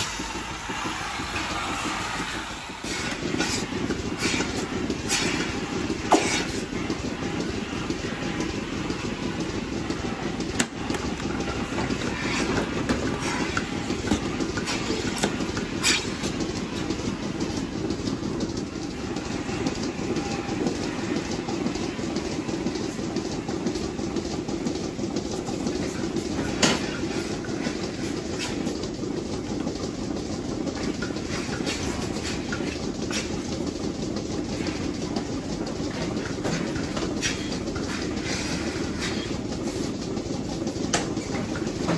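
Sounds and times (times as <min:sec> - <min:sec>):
milking machinery running: 0:00.0 - 0:41.9.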